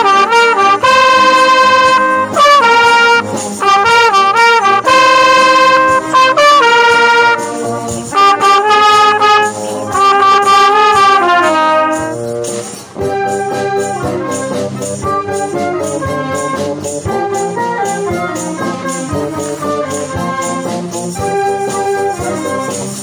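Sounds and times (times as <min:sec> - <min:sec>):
trumpet playing: 0:00.0 - 0:23.0.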